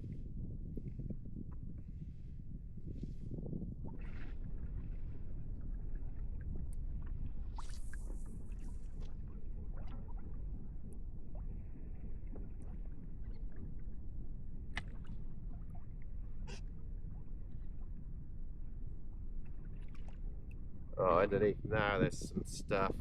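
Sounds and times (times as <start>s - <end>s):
low rumble: 0.0s - 23.0s
water lapping against hull: 1.5s - 23.0s.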